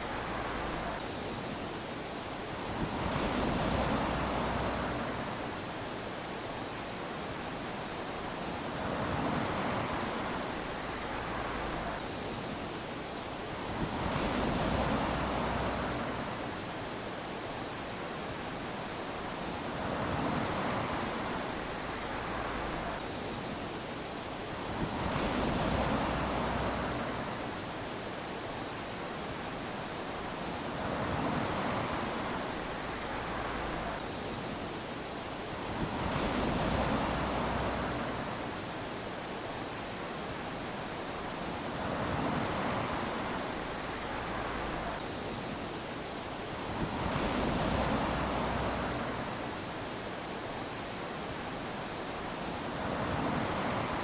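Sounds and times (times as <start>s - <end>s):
waves washing onto sand: 0.0s - 54.0s.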